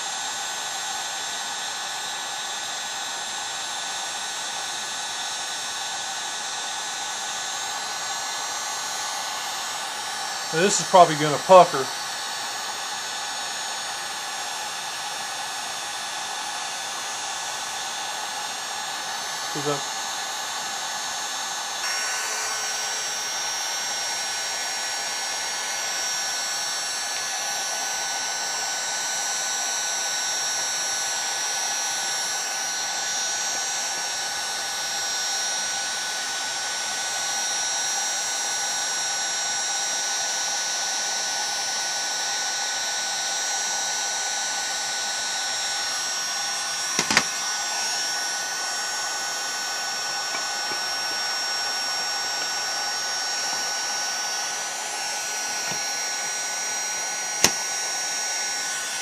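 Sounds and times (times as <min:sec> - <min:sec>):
heat gun blowing with fan whine: 0:00.0 - 0:59.0.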